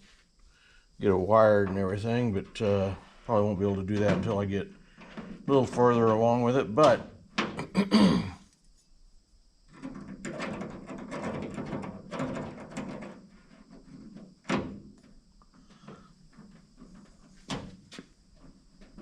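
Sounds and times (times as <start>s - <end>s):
parts rattling and scraping: 1.0s - 7.6s, 9.7s - 19.0s.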